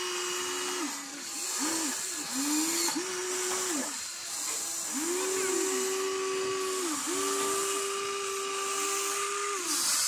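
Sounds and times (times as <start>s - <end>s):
toy excavator motors whining: 0.0s - 10.0s.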